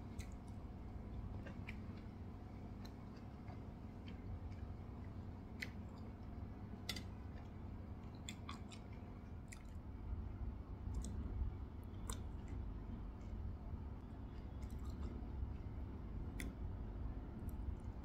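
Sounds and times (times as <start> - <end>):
chewing with wet mouth clicks: 0.0 - 9.9, 10.8 - 16.8.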